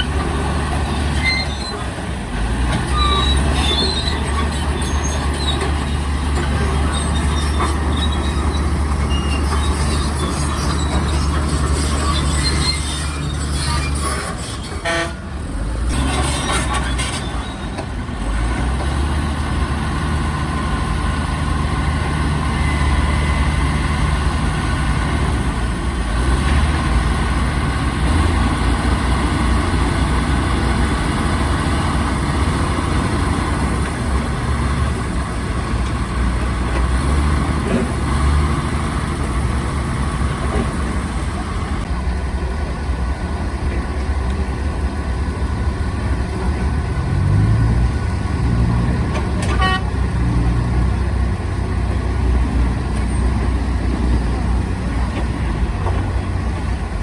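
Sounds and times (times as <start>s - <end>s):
heavy diesel machines rumbling: 0.0s - 57.0s.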